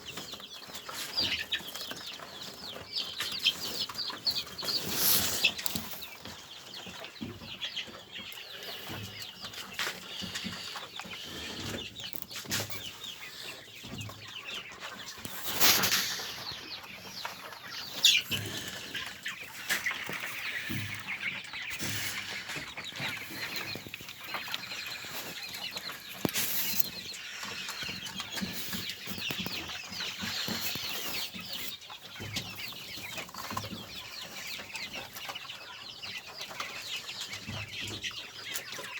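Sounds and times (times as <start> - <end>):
poultry clucking and chirping: 0.0 - 38.9.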